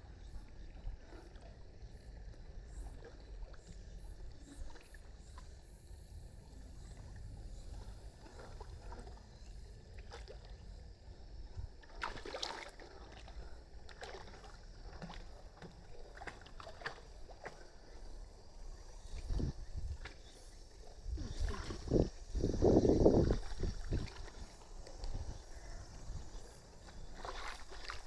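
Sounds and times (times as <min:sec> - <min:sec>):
water lapping and splashing: 0:00.0 - 0:28.0.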